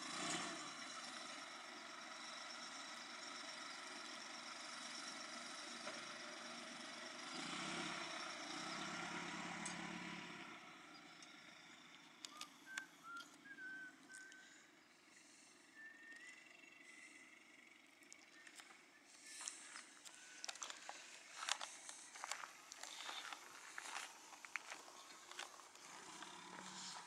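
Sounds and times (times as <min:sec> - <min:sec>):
farm machine engine running: 0:00.0 - 0:27.0.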